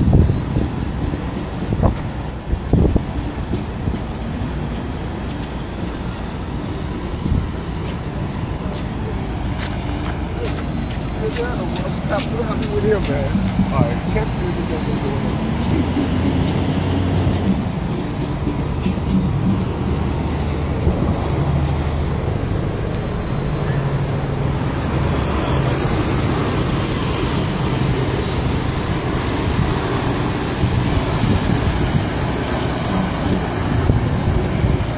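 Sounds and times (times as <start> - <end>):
bus diesel engine droning: 0.0 - 34.9
street traffic noise: 0.0 - 34.9.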